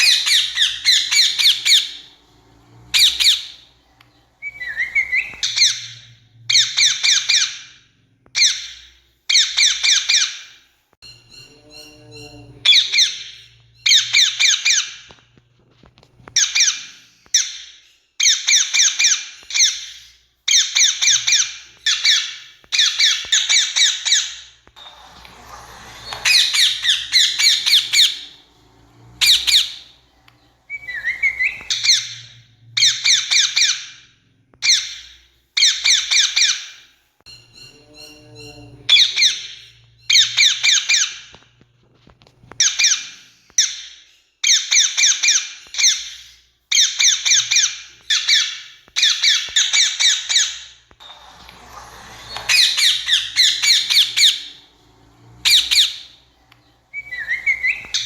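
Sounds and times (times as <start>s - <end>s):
parakeets screeching: 0.0s - 15.4s, 16.2s - 41.4s, 42.5s - 58.0s.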